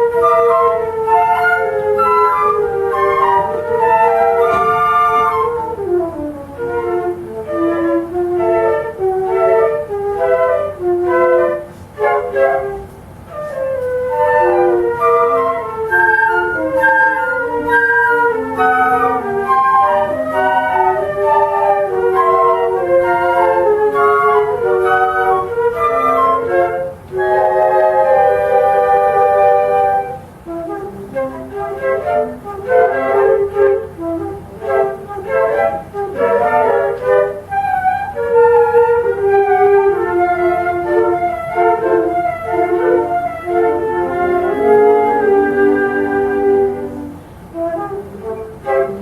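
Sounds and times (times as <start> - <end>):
flute ensemble playing lively music: 0.0 - 49.0.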